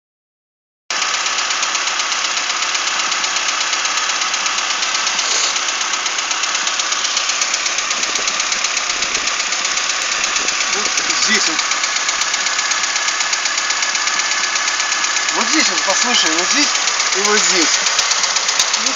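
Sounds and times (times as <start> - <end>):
engine running with rapid knock: 0.9 - 18.9.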